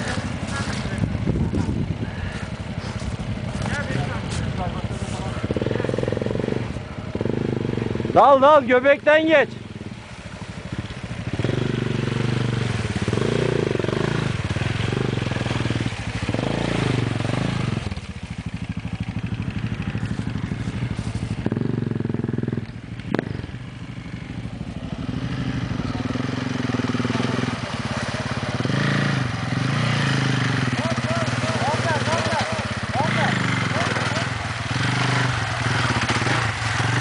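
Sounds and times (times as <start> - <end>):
dirt bike engines revving: 0.0 - 37.0.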